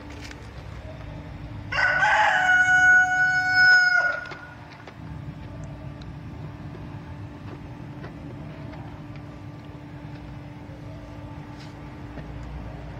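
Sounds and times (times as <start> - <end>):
distant traffic rumble: 0.0 - 12.9
faint steady hum: 0.0 - 12.9
kittens crunching dry kibble: 0.0 - 12.9.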